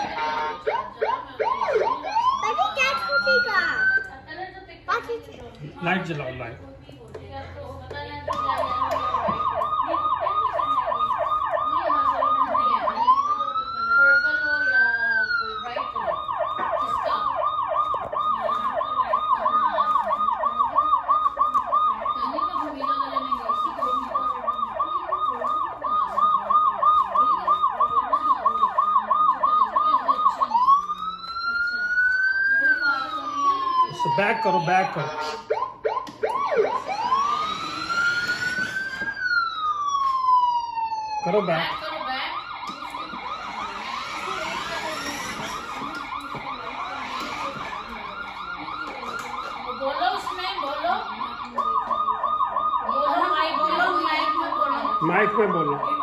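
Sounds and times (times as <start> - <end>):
electronic police siren yelp: 0.0 - 4.2, 8.2 - 56.0.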